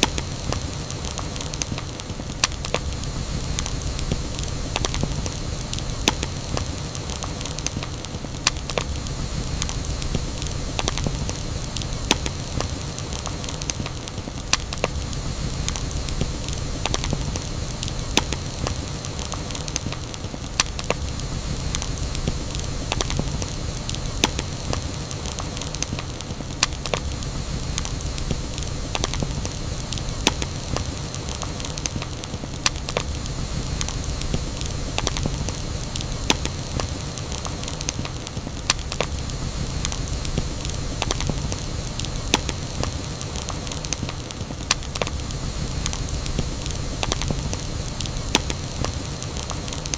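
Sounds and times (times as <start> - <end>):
campfire burning: 0.0 - 49.9
wood crackling and popping: 0.0 - 49.9.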